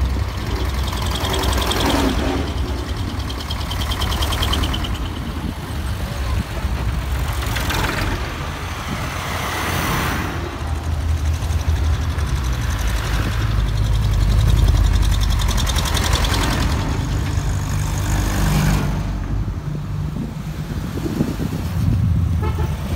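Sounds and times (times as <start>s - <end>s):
tractor engine exhaust beat: 0.0s - 22.9s
vehicles rolling past: 0.0s - 22.9s.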